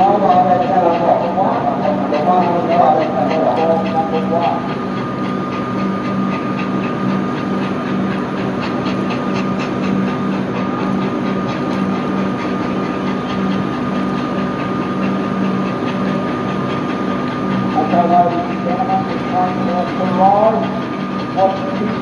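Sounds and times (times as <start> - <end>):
steam locomotive exhaust beats: 0.0 - 22.0.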